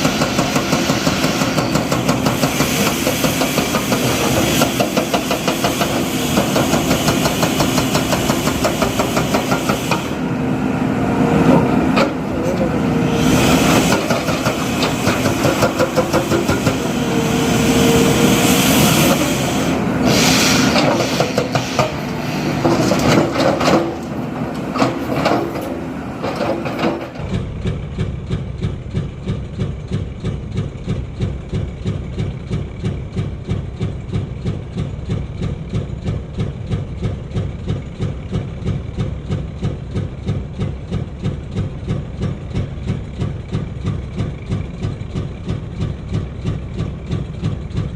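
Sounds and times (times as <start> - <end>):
diesel engine idling: 0.0 - 47.9
diesel engine running under load: 0.0 - 47.9.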